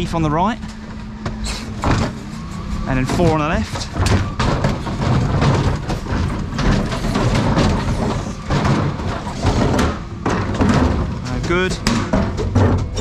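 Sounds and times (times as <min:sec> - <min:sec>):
lorry engine and hydraulics running: 0:00.0 - 0:13.0
bin knocking and rattling: 0:00.6 - 0:13.0.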